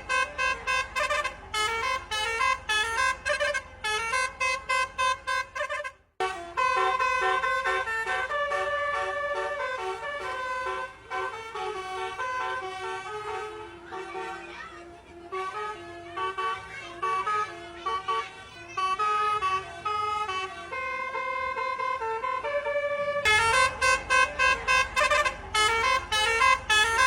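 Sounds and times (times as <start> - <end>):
bus musical horn tooting: 0.0 - 27.0.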